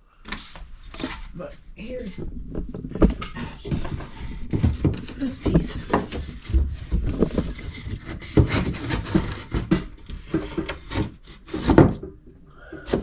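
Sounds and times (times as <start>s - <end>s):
wood scraping against wood: 0.3s - 13.0s
wooden boards knocking: 2.1s - 13.0s.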